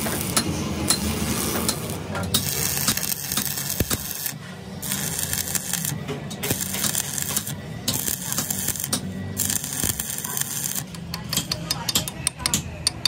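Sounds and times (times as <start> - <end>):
arc welding crackling and sizzling: 0.0 - 11.6.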